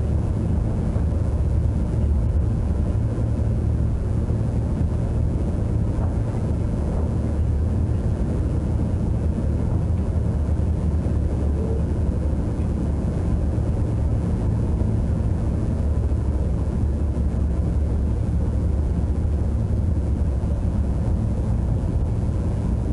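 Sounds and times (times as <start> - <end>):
train rumbling on track: 0.0 - 22.9.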